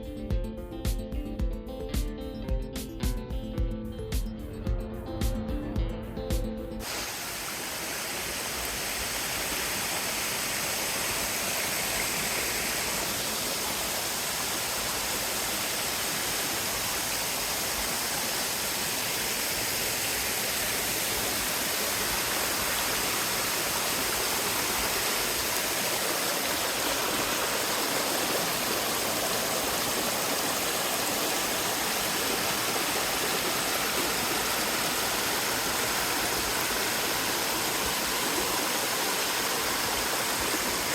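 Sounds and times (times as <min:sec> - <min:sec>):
waterfall pouring: 0:06.8 - 0:40.9.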